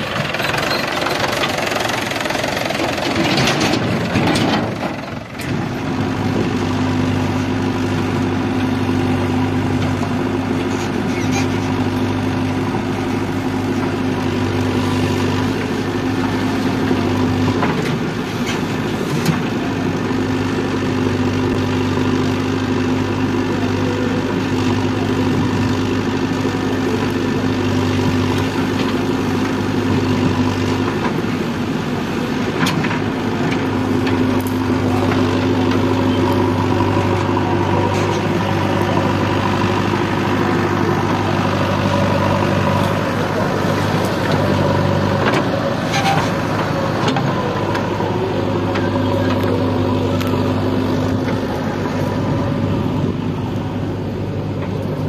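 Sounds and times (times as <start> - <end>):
backhoe loader engine running: 0.0 - 55.0
tractor engine idling: 0.0 - 55.0.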